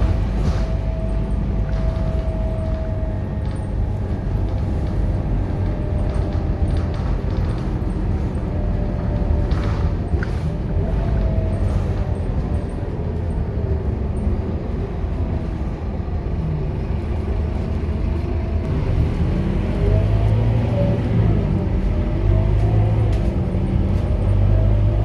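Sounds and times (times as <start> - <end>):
bus diesel engine rumble: 0.0 - 25.0.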